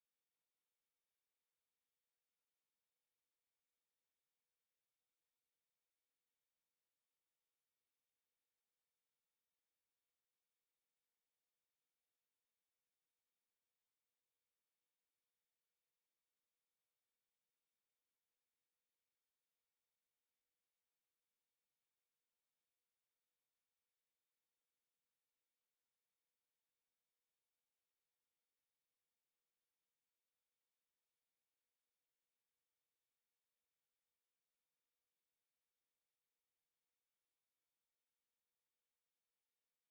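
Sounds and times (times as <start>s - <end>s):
high-pitched sine test tone: 0.0s - 39.9s.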